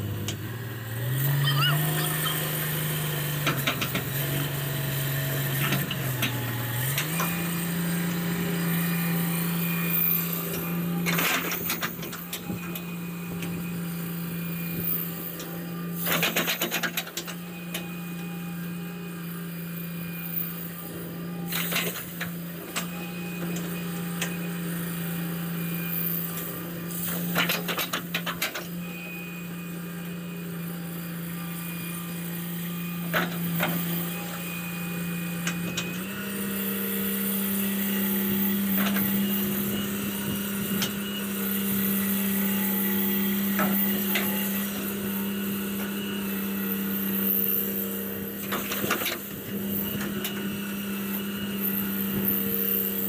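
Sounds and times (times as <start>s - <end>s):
excavator diesel engine droning: 0.0s - 53.0s.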